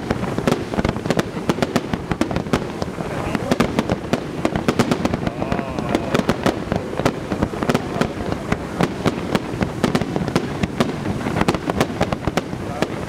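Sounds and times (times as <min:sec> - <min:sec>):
fireworks bursts and bangs: 0:00.0 - 0:13.0.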